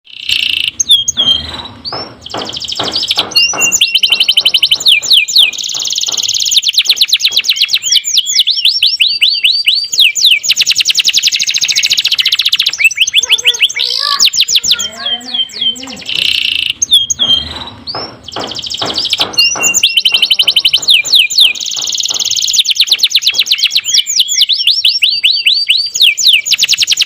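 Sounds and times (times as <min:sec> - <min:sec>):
canary singing trills: 0:00.1 - 0:27.0.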